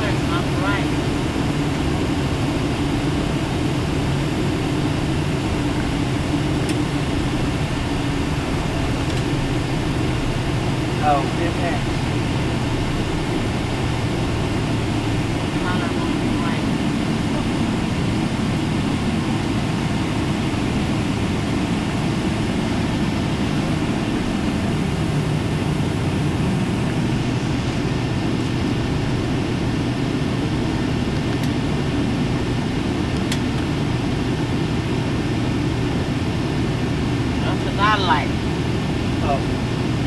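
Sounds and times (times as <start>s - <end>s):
jet engines at taxi power: 0.0s - 40.0s.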